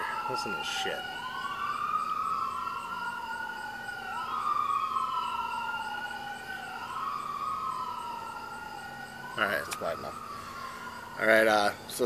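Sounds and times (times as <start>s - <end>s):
emergency vehicle sirens wailing: 0.0s - 12.0s.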